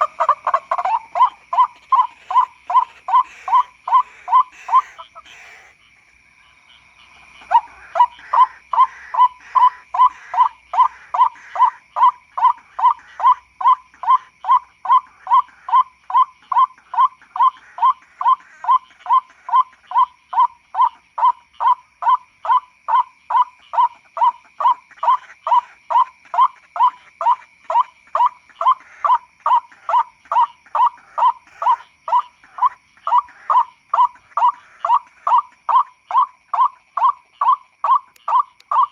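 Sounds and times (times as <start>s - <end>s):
waterhen calls: 0.0s - 5.8s, 6.7s - 38.9s.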